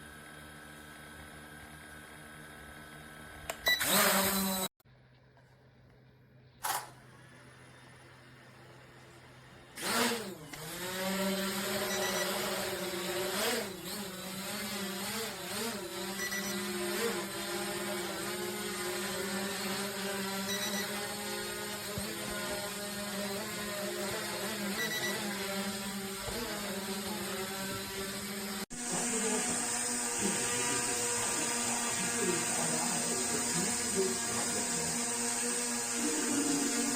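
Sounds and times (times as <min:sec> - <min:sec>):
drone motors whining and buzzing: 0:00.0 - 0:04.7, 0:06.7 - 0:36.9.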